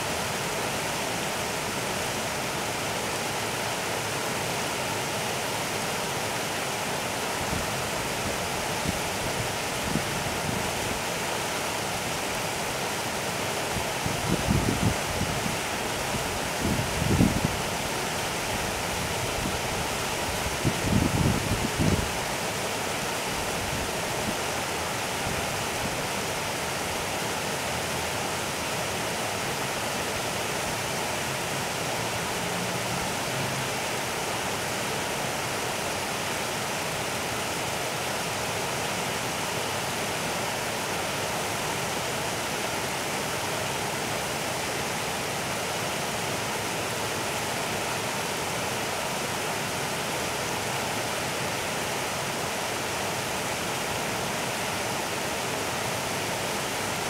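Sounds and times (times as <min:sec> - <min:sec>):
river water flowing over gravel: 0:00.0 - 0:57.0.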